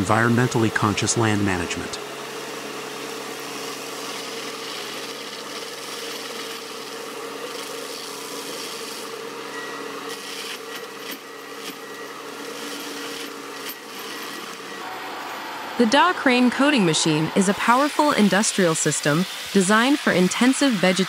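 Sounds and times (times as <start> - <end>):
forestry mulcher grinding wood: 0.0 - 21.0.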